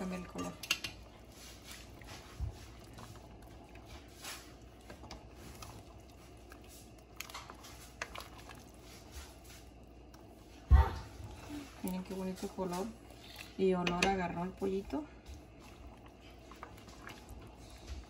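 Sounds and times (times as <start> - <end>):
liquid swishing in a pot: 0.0 - 18.0
low steady hum: 0.0 - 18.0.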